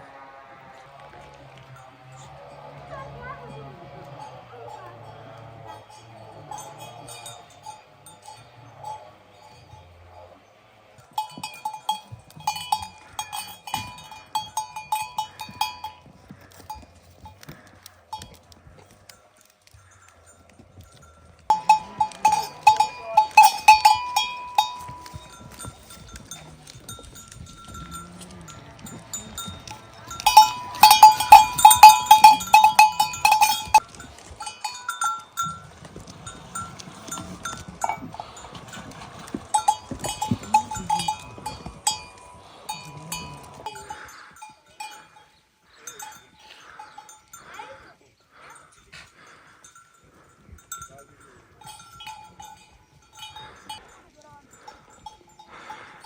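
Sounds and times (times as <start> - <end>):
livestock bells clanking: 1.5 - 56.0.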